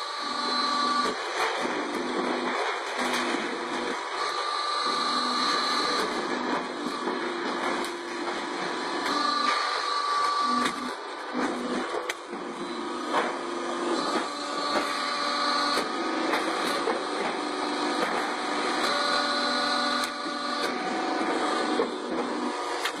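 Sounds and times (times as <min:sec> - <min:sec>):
machine humming with held tones: 0:00.0 - 0:23.0.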